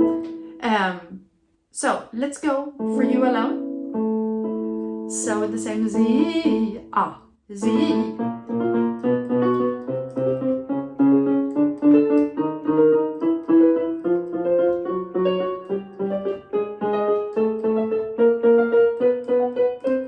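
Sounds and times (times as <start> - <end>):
piano repeated chords: 0.0 - 1.2, 2.2 - 20.0.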